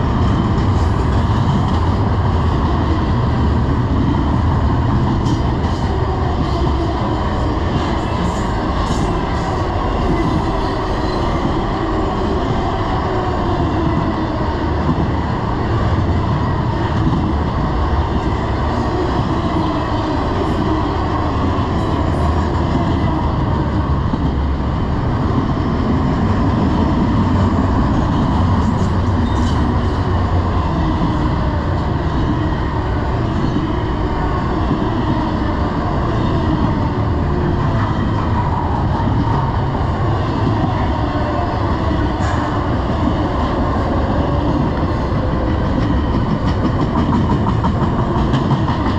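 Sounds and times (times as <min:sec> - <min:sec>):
steel wheels clattering on rail: 0:00.0 - 0:48.9.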